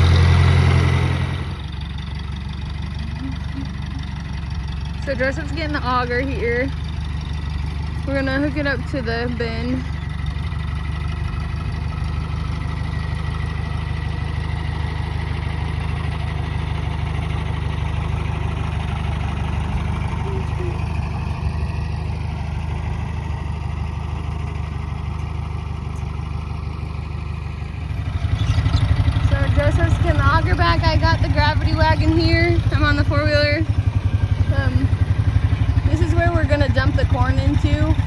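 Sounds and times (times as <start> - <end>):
tractor engine droning: 0.0 - 38.0.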